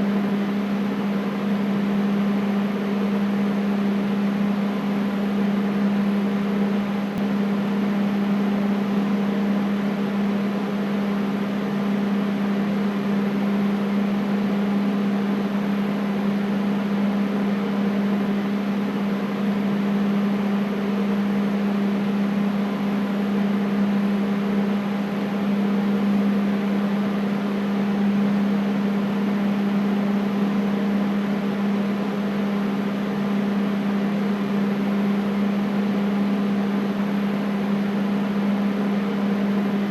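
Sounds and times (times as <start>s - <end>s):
air conditioner air rush: 0.0s - 39.9s.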